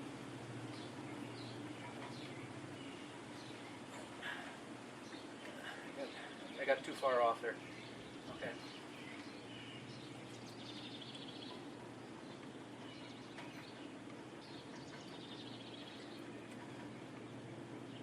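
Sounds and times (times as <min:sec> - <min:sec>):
steady low hum: 0:00.0 - 0:18.0
high chirping trills: 0:00.6 - 0:18.0.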